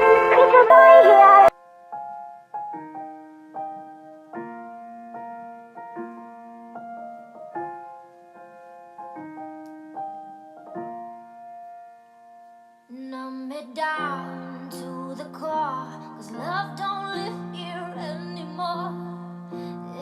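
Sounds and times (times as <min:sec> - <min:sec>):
solo piano chords: 0:00.0 - 0:20.0.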